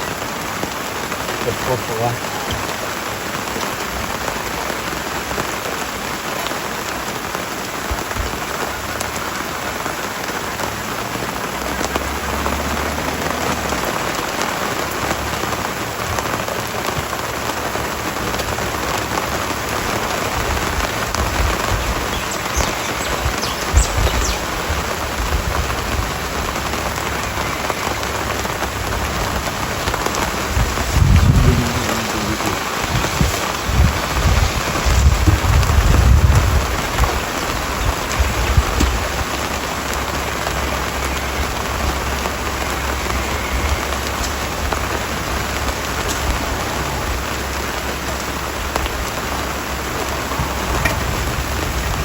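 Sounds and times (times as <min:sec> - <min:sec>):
rain falling: 0:00.0 - 0:52.0
low rumbles: 0:10.3 - 0:52.0.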